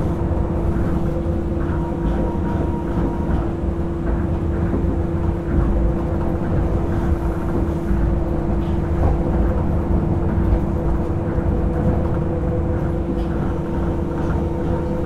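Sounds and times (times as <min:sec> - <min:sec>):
monorail running rumble: 0:00.0 - 0:15.0
steady motor hum: 0:00.0 - 0:15.0.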